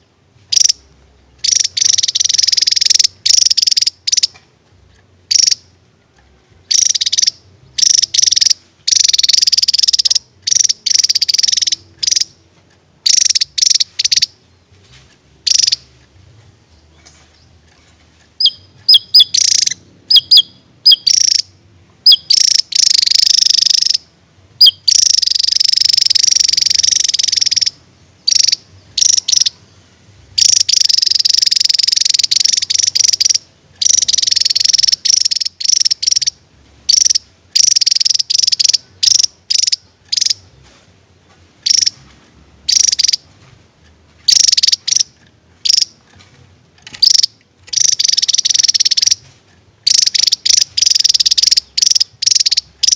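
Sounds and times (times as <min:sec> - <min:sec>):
bird rapid high-pitched song: 0:00.0 - 0:04.4, 0:05.2 - 0:05.8, 0:06.6 - 0:12.4, 0:13.0 - 0:40.8, 0:41.6 - 0:43.4, 0:44.2 - 0:52.9.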